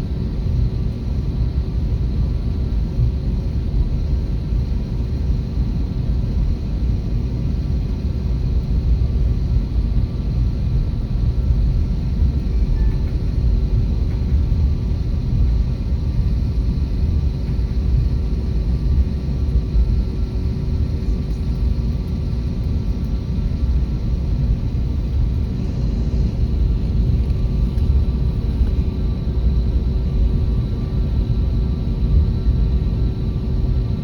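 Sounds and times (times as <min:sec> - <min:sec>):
jet engine rumble: 0:00.0 - 0:34.0.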